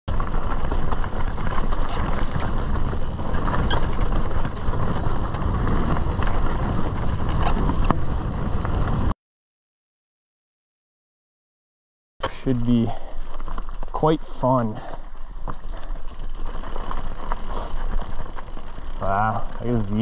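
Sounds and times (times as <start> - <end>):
bike clicks and rattles: 0.1 - 9.1, 12.2 - 20.0
tyres rumbling on dirt: 0.1 - 9.1, 12.2 - 20.0.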